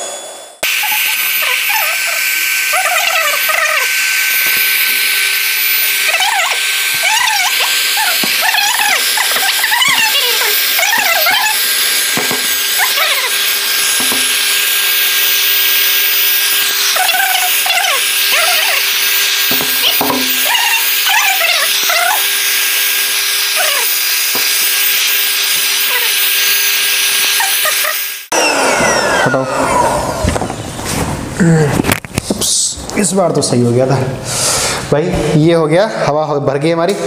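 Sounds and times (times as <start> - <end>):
electric air pump rushing hiss: 0.0 - 31.4.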